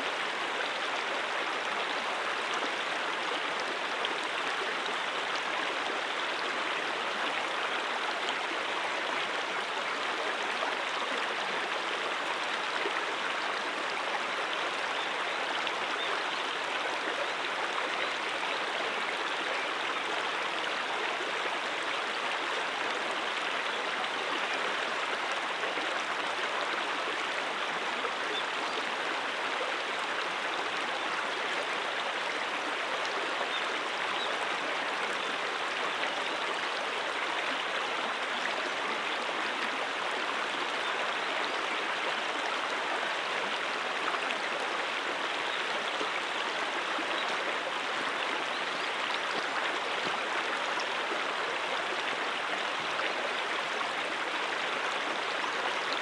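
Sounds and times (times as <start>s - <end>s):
brook water flowing over rocks: 0.0s - 56.0s.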